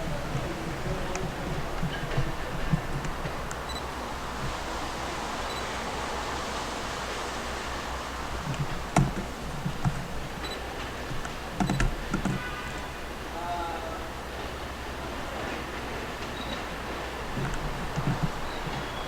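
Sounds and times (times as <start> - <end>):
train rushing along track: 0.0 - 19.0.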